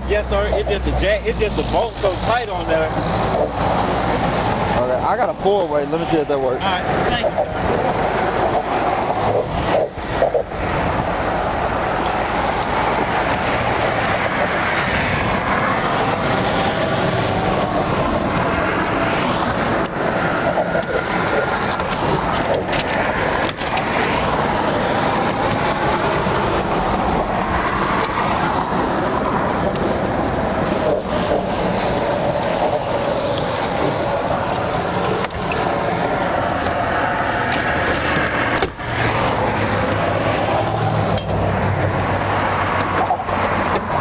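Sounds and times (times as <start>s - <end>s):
highway traffic rushing: 0.0s - 44.0s.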